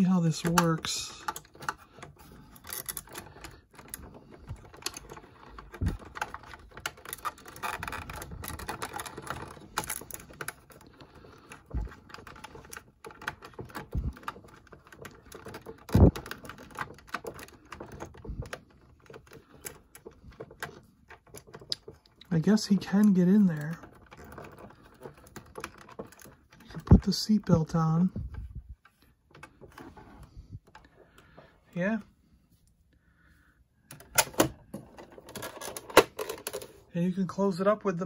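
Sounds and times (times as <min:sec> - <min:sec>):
plastic toy clicking and rattling: 0:00.0 - 0:29.9, 0:33.9 - 0:36.8.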